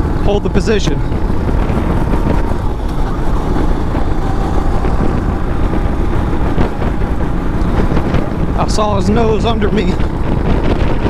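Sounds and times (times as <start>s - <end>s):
kart engine running hard: 0.0s - 11.0s
wind rushing over microphone: 0.0s - 11.0s.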